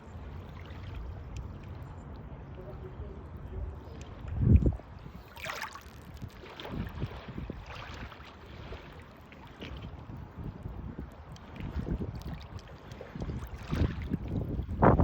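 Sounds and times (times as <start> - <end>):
water splashing: 0.0 - 2.9, 3.7 - 15.0
wind rumble on microphone: 0.0 - 15.0.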